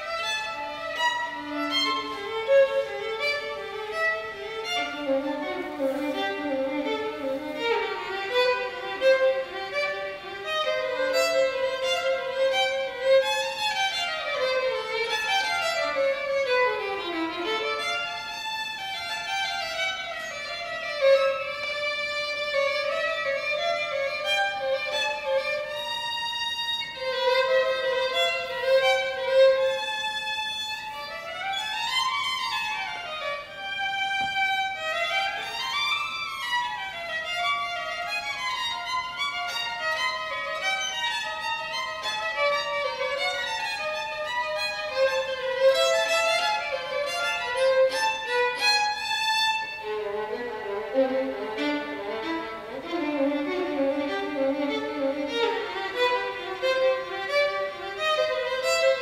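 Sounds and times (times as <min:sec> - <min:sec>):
bowed violin: 0:00.0 - 0:59.0.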